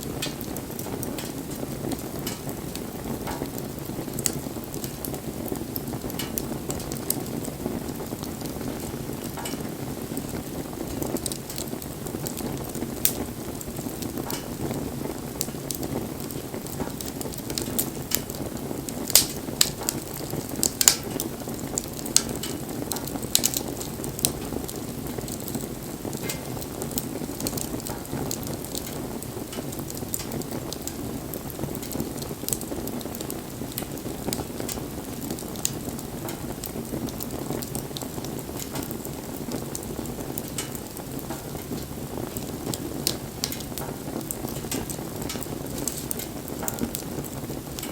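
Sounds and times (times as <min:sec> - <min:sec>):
fire crackling and popping: 0:00.0 - 0:47.9
low rush of flames: 0:00.0 - 0:47.9.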